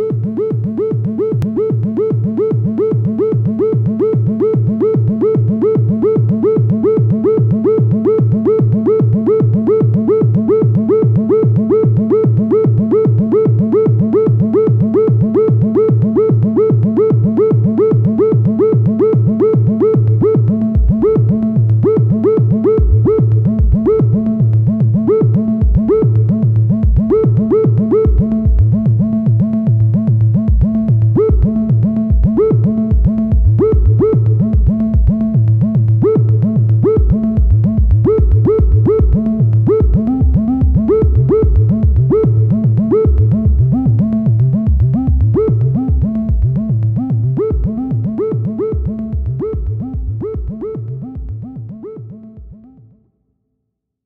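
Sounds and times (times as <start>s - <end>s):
pulsing synth bass: 0.0s - 53.0s.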